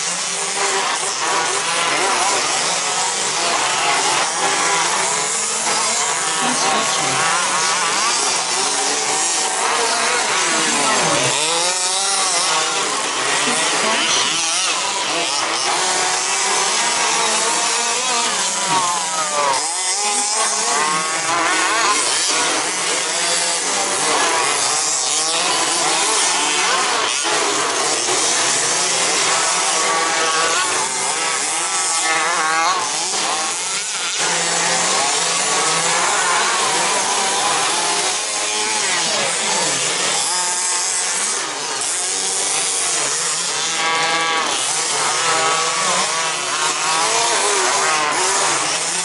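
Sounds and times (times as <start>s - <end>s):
rc car motors whining: 0.0s - 49.0s.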